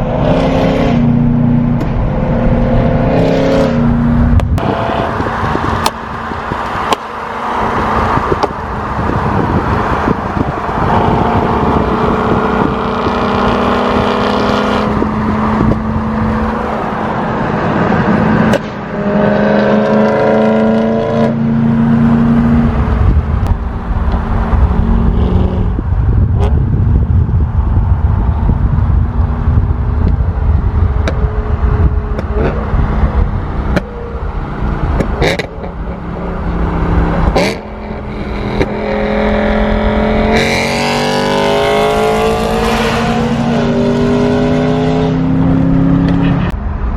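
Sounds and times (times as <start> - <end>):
car engine revving and burbling: 0.0 - 46.9.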